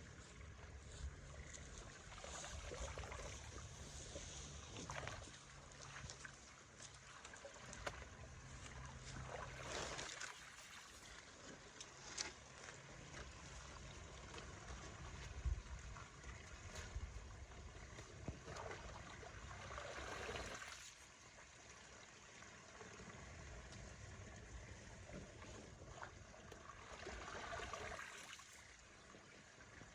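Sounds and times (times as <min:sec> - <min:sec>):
water trickling through culvert: 0:00.0 - 0:29.9.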